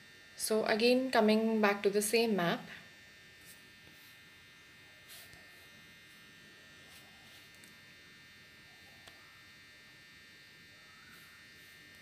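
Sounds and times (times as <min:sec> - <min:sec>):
faint buzzing: 0:00.0 - 0:12.0.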